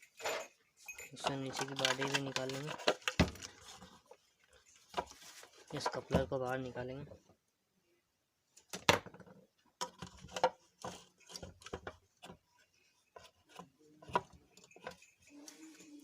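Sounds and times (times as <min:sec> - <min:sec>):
plastic and metal parts handled: 0:00.0 - 0:06.7, 0:08.6 - 0:16.0.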